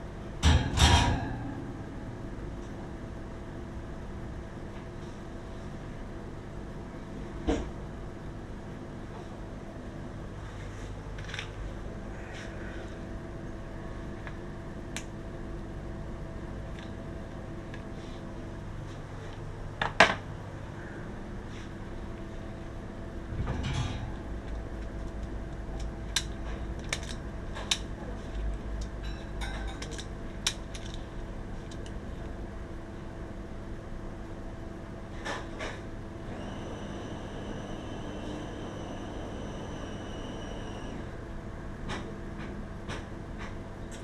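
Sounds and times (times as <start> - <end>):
mechanical hum: 0.0 - 44.0.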